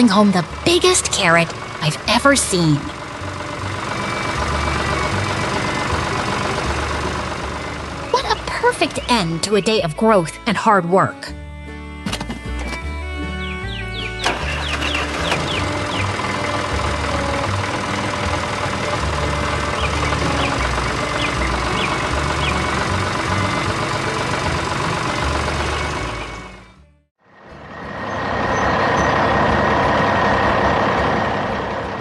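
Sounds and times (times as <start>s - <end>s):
cartoon vehicle engine effects: 0.0s - 11.3s, 13.0s - 32.0s
background music: 0.0s - 27.0s
truck engine running: 0.0s - 32.0s.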